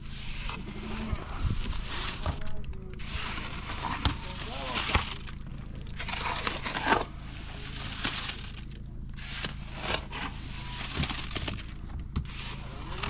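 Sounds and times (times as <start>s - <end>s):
rustling and crinkling handling noise: 0.0s - 13.0s.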